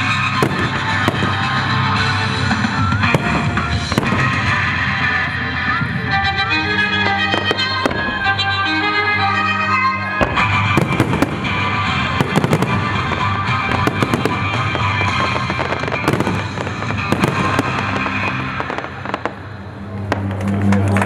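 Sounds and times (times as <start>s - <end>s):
firework bangs and crackles: 0.0s - 6.2s, 7.0s - 8.5s, 10.1s - 21.0s
music: 0.0s - 21.0s.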